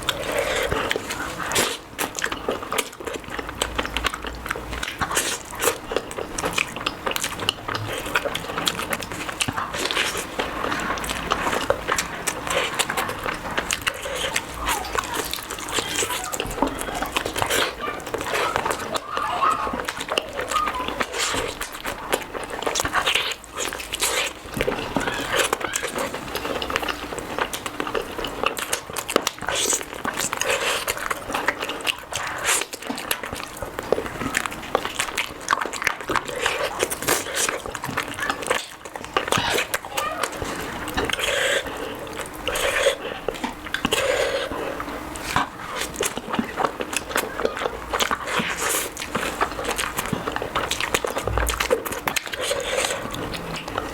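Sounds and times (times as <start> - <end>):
chewing and lip-smacking: 0.0 - 53.9.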